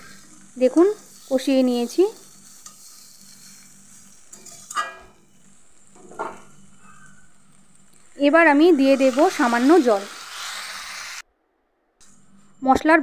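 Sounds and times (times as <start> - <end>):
food frying in oil: 0.0 - 11.2.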